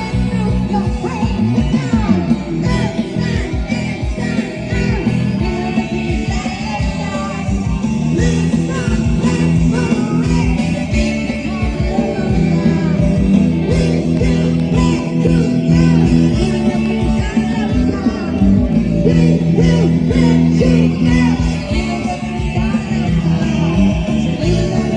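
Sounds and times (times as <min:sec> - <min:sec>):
bass guitar line: 0:00.0 - 0:24.9
rock music with singer: 0:00.0 - 0:24.9.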